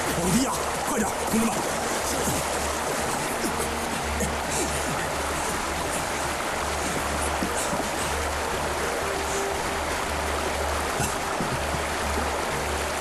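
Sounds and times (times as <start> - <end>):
fast-flowing river water: 0.0 - 13.0.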